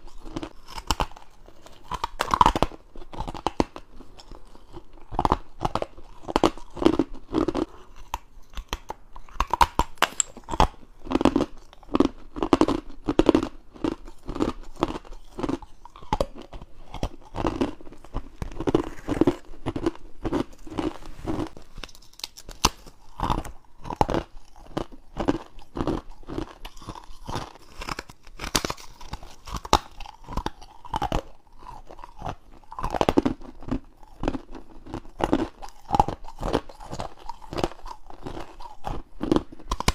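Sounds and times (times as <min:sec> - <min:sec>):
teeth crunching ice: 0:00.0 - 0:39.9.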